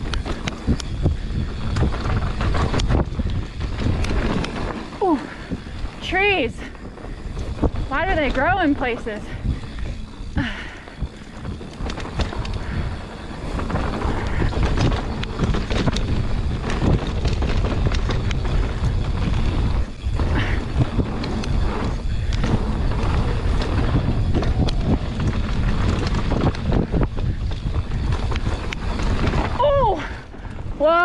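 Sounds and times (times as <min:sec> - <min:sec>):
bike chain and frame rattling: 0:00.0 - 0:31.0
tyres rolling over dirt: 0:00.0 - 0:31.0
wind buffeting microphone: 0:00.0 - 0:31.0.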